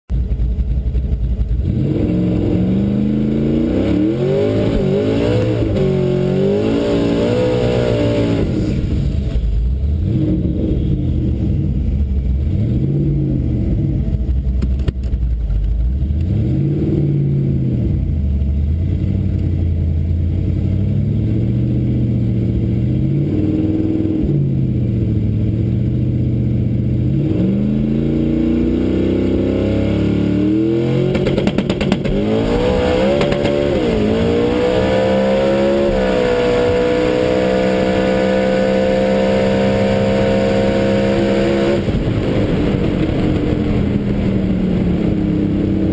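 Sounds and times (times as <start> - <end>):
car engine idling and revving: 0.1 - 45.9.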